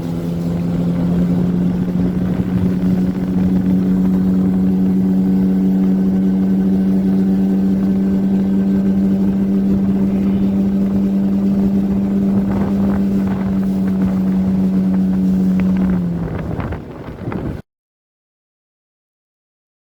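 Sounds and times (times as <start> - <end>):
outboard motor running: 0.0 - 17.6
wind noise: 0.0 - 17.6.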